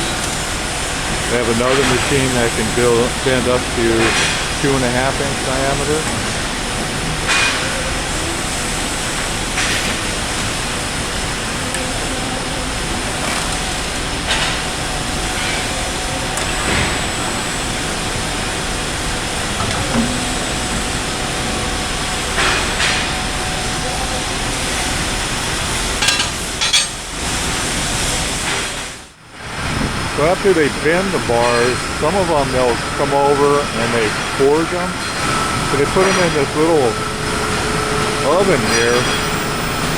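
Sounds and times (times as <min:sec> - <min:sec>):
faint machine whines: 0:00.0 - 0:26.1, 0:29.4 - 0:39.9
machinery hum and hiss: 0:00.0 - 0:39.9.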